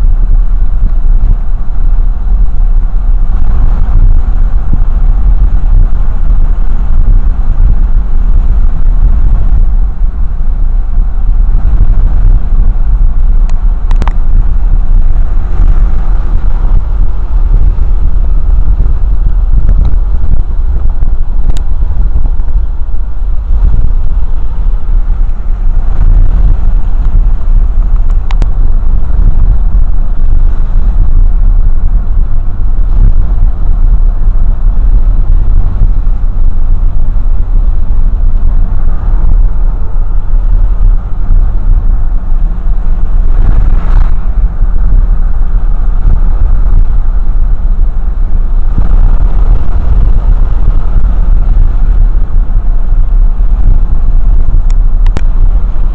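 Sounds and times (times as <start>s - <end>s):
vehicle interior road rumble: 0.0s - 55.9s.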